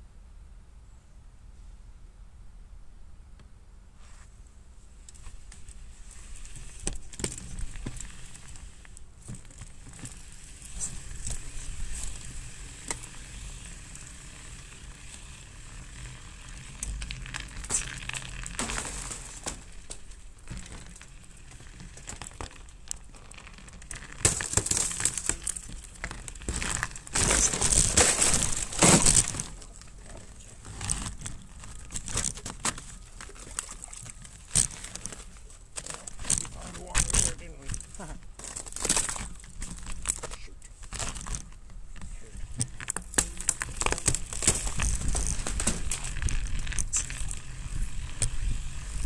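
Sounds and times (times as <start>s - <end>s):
bike tyres crunching snow: 4.0s - 49.0s.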